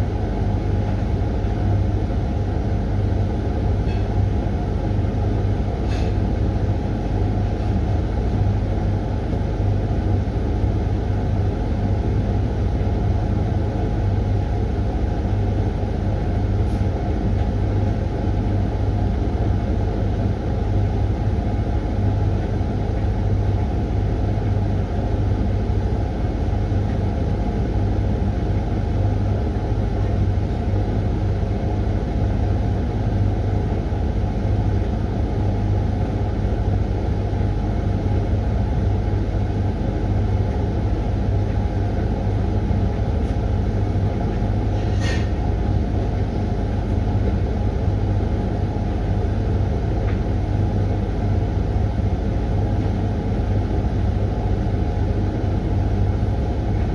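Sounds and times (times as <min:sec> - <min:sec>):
washing machine motor hum: 0:00.0 - 0:56.9.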